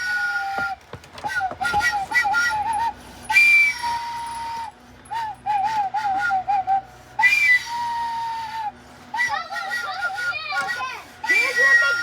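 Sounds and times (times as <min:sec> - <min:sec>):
recorder flute notes: 0:00.0 - 0:12.0.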